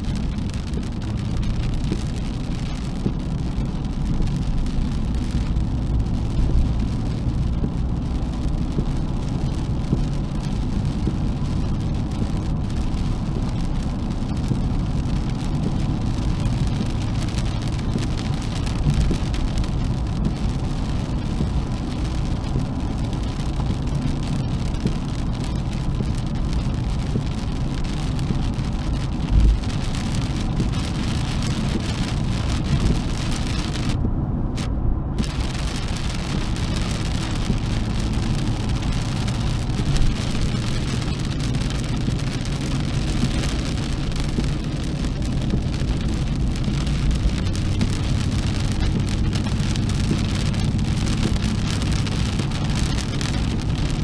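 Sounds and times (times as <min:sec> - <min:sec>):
rain and spray hiss: 0:00.0 - 0:54.0
tyre and road rumble: 0:00.0 - 0:54.0.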